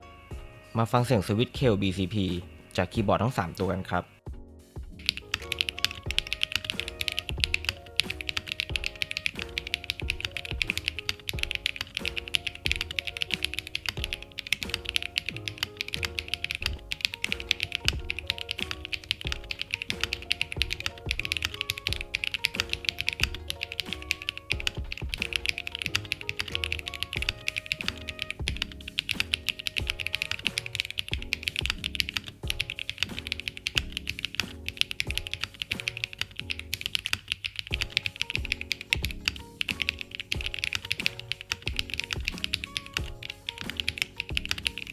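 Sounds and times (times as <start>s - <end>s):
fast mechanical keyboard typing: 5.0s - 44.9s.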